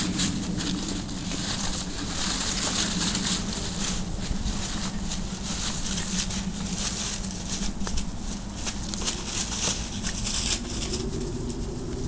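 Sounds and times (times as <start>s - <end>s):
dry leaves crunching underfoot: 0.0s - 12.0s.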